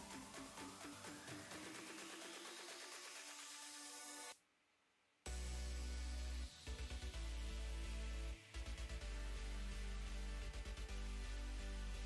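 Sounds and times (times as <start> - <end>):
music with heavy bass line: 0.0 - 4.3, 5.3 - 12.0.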